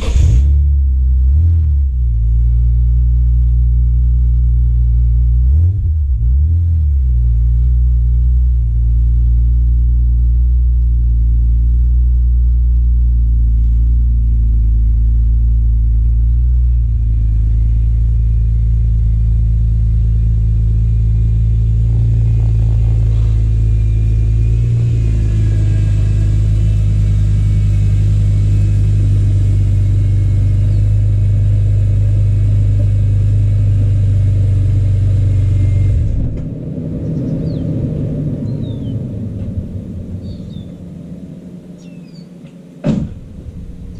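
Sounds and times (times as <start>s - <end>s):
car engine idling burble: 7.0s - 43.9s.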